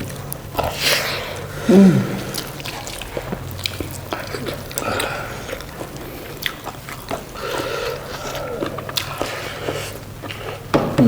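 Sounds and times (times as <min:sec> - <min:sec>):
chewing and wet mouth noises: 0:00.0 - 0:10.7.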